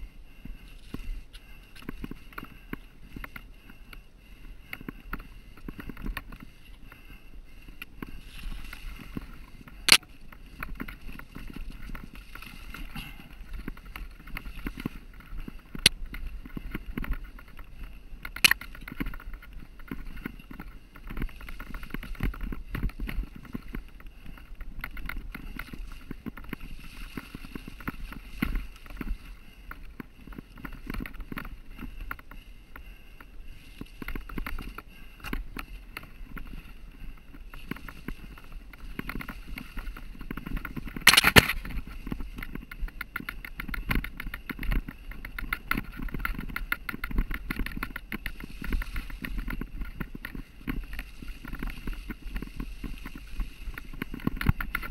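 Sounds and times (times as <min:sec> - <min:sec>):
bike tyres rattling over stones: 0:00.0 - 0:54.9.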